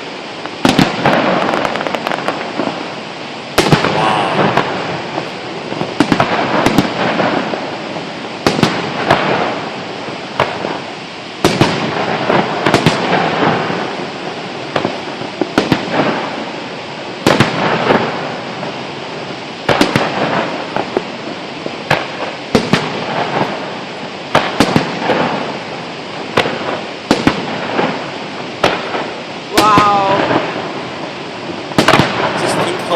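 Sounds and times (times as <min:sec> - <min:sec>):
fireworks rumbling and crackling: 0:00.0 - 0:32.9.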